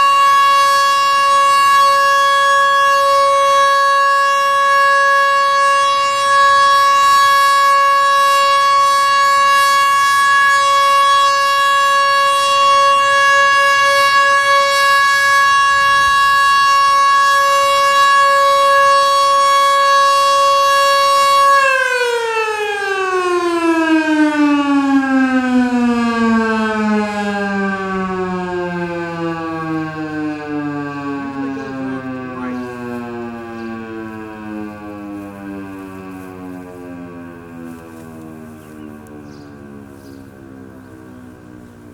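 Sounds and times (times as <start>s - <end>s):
outdoor warning siren: 0.0s - 41.9s.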